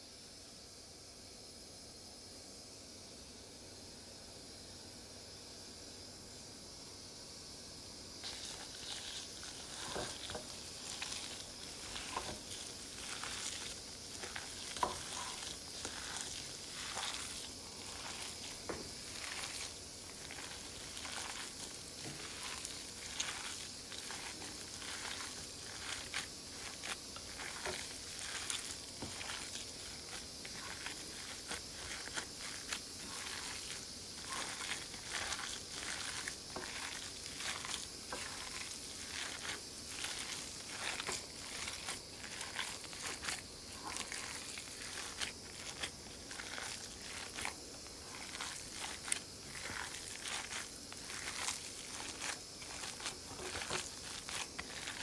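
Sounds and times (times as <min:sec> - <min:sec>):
hands squishing raw meat: 0:08.2 - 0:55.0.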